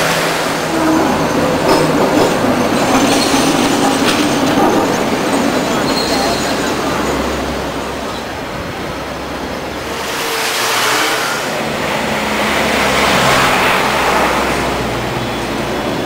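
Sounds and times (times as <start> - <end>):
vehicles passing close by: 0.0 - 16.0.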